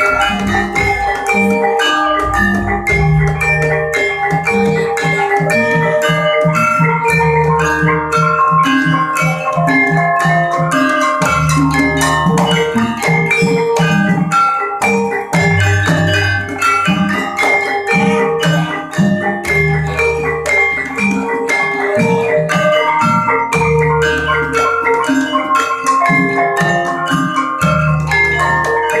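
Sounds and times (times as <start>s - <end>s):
metallophones ringing notes: 0.0s - 29.0s.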